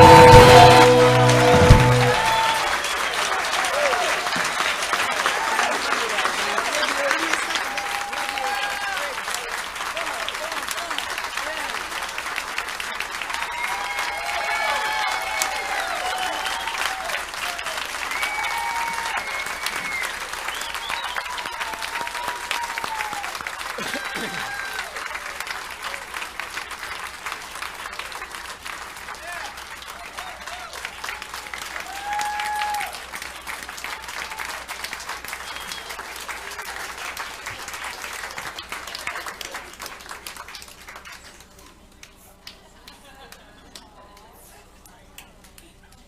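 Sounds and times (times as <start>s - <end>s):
audience applauding: 0.0s - 44.2s.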